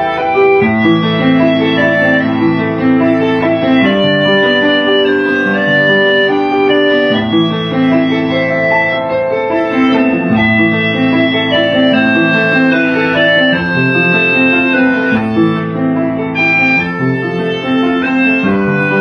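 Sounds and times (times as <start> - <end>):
keyboard melody over chords: 0.0 - 19.0.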